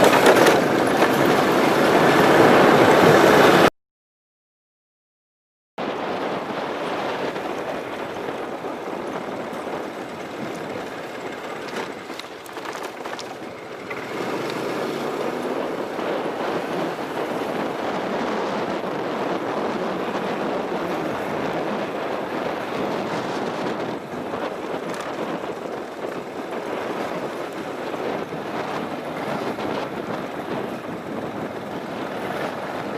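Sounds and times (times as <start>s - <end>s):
vehicle driving road noise: 0.0s - 3.7s, 5.8s - 32.9s.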